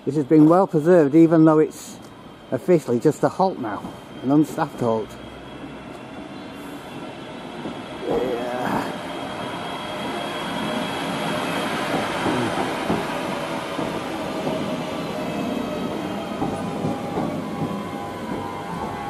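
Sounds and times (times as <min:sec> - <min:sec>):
train rail rumble: 0:00.0 - 0:19.0.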